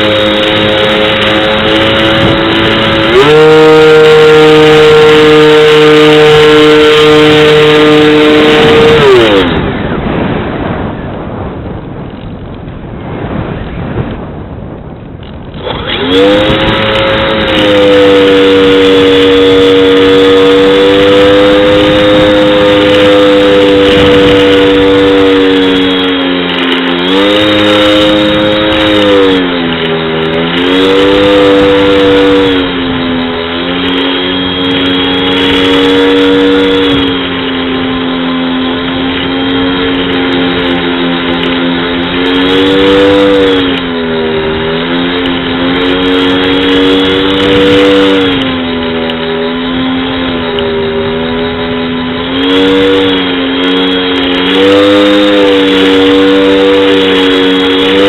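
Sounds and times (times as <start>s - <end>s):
electric motor high-pitched whine: 0.0s - 9.6s, 15.5s - 58.0s
wind noise: 0.0s - 58.0s.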